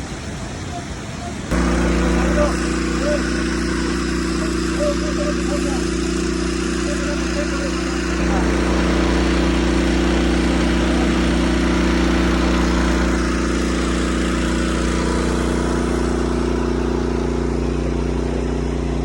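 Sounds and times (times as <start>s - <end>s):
water pump engine humming: 0.0s - 19.0s.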